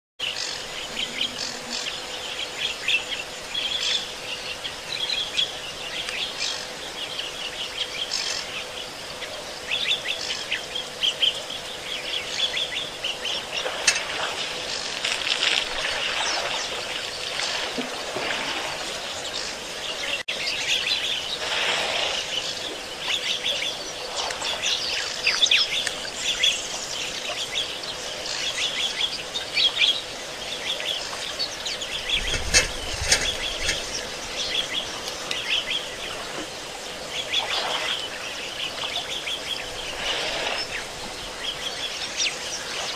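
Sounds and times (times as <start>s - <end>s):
birds chirping chorus: 0.2s - 42.9s
faint steady hum: 0.2s - 42.9s.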